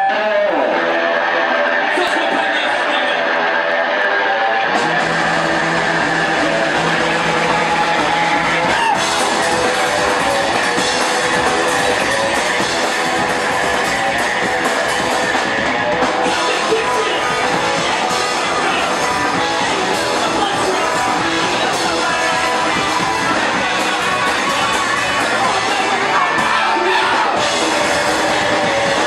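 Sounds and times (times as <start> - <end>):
bass guitar: 0.0 - 29.0
electric guitar: 0.0 - 29.0
drum kit: 4.6 - 29.0.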